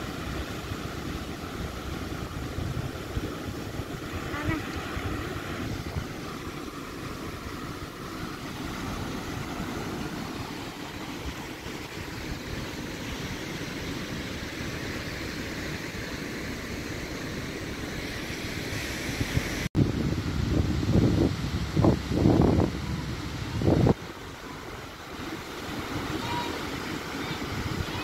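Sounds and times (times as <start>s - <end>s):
surf breaking on beach: 0.0s - 17.4s, 18.0s - 28.0s
wind rumbling on microphone: 0.0s - 28.0s.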